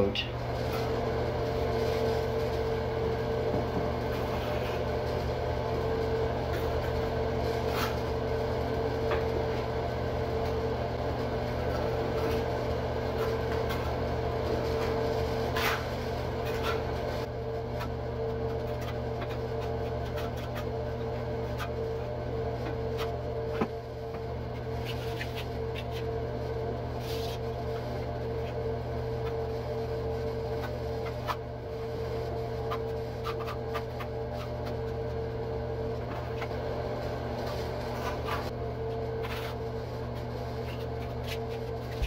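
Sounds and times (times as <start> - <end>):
mechanical hum: 0.0 - 42.0.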